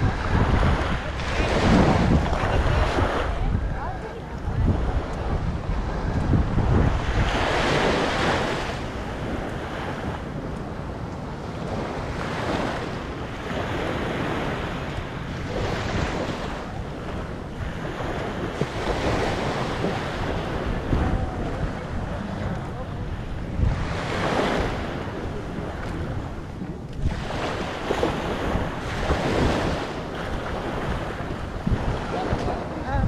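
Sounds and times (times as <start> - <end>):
small waves lapping on shore: 0.0 - 33.0
wind buffeting microphone: 0.0 - 33.0.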